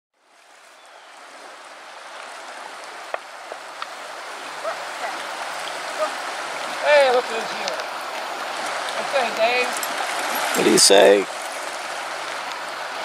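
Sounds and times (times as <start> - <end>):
creek water rushing: 0.2 - 13.0.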